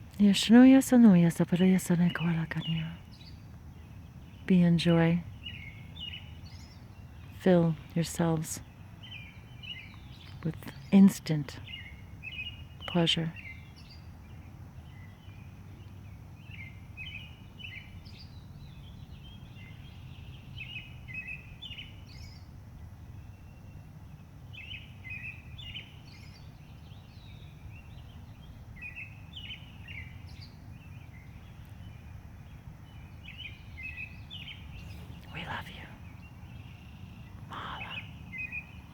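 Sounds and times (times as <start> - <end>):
low background rumble: 0.0 - 38.9
songbird chirping: 0.0 - 38.9.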